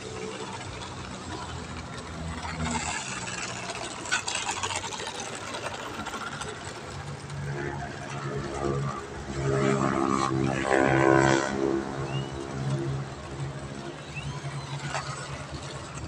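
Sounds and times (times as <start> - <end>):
model plane propeller motor buzzing: 0.0 - 16.0.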